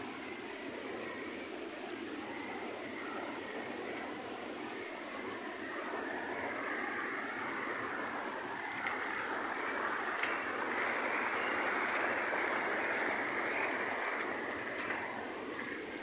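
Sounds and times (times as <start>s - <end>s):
rainwater runoff flowing: 0.0s - 16.0s.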